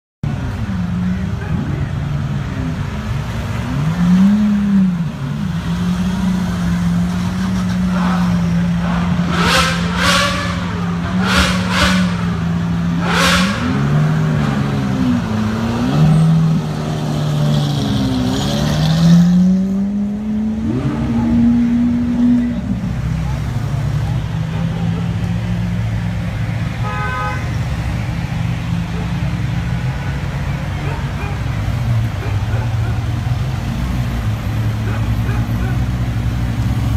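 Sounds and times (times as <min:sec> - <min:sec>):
car engines idling and revving: 0:00.2 - 0:36.9.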